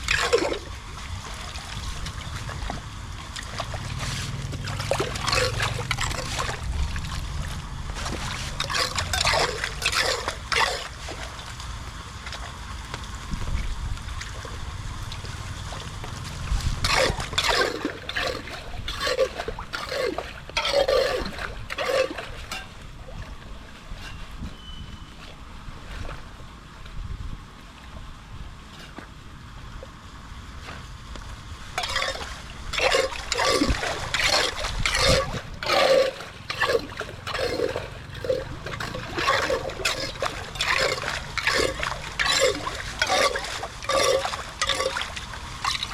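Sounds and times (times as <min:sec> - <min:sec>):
flowing water rushing: 0:00.0 - 0:24.0, 0:31.6 - 0:45.9
water splashing and sloshing: 0:00.0 - 0:45.9.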